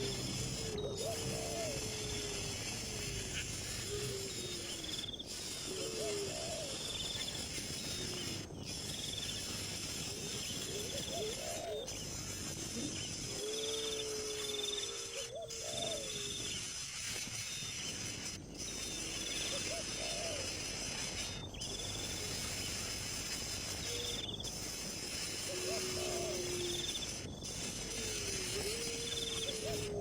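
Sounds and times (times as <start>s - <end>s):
low wavering animal calls: 0.0s - 22.4s, 23.7s - 30.0s
insect chorus with high trills: 0.0s - 30.0s.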